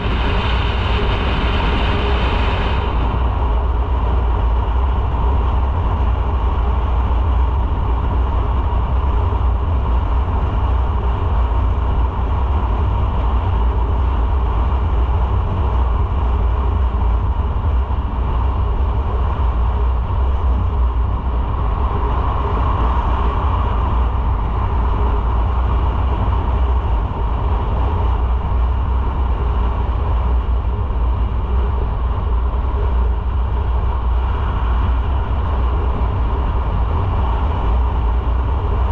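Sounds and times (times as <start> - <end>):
motorcycle engine and wind rumble: 0.0 - 38.9
road noise: 0.0 - 38.9.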